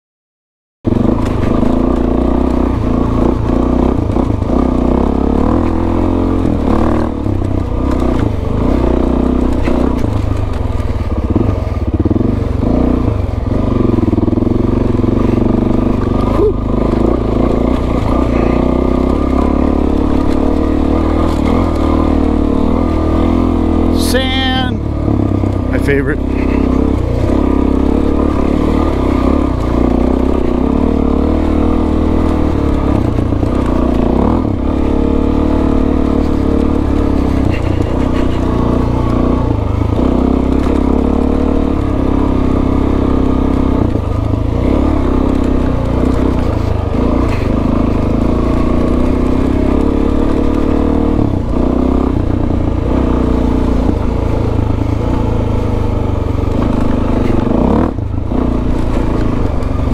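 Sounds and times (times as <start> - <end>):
motorcycle engine revving: 0.9 - 59.9.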